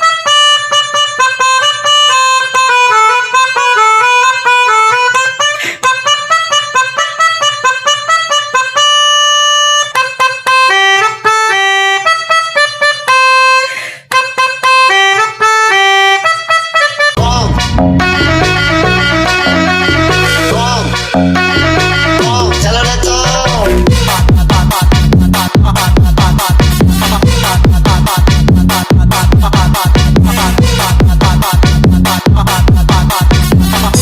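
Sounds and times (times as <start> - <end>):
bus horn playing a tune: 0.0 - 26.1, 26.7 - 34.0.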